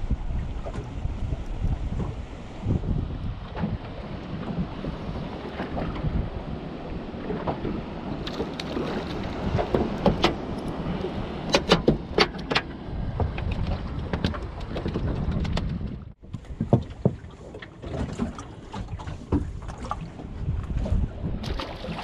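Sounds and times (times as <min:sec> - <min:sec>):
knocks and clatters in boat: 0:00.0 - 0:22.0
wind buffeting microphone: 0:00.0 - 0:22.0.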